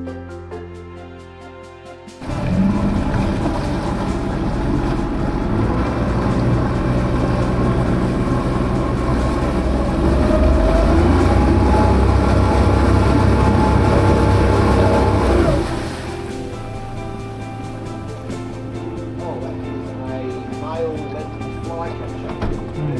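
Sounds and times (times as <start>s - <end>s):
engine running: 2.2s - 22.9s.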